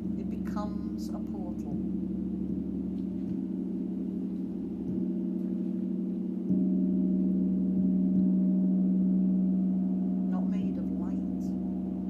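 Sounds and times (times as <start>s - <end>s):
deep gong-like drone: 0.0s - 12.0s.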